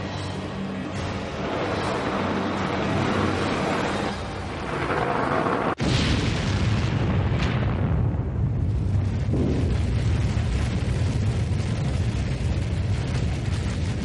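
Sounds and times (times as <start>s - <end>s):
dense rushing noise: 1.0s - 14.0s
heavy explosion rumble: 1.1s - 14.0s.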